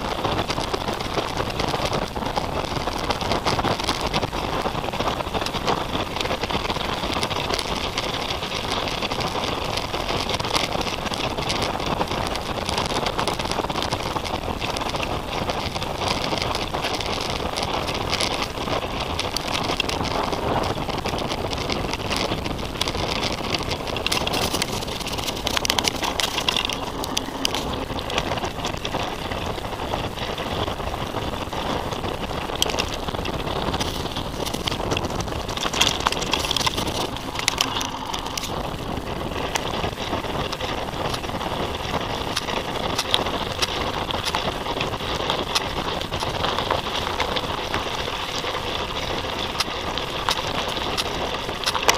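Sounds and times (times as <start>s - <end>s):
bike rattling and clicking: 0.0s - 51.9s
bike tyres rumbling on dirt: 0.0s - 51.9s.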